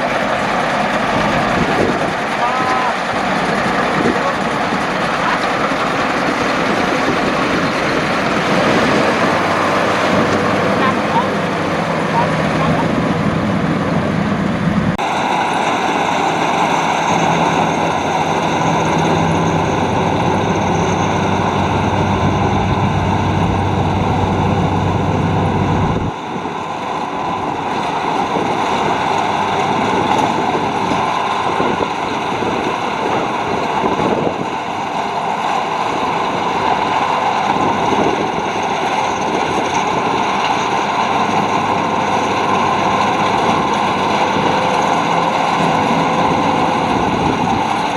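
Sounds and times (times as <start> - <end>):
combine harvester running: 0.0 - 47.9.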